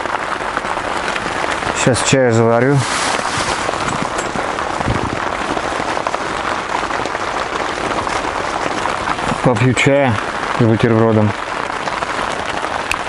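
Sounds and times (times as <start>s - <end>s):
rain falling on a tent: 0.0s - 13.0s.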